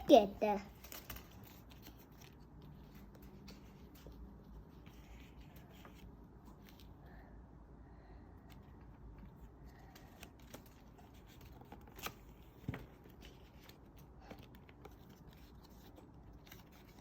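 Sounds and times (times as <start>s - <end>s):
rustling construction paper: 0.1s - 7.0s, 8.4s - 17.0s.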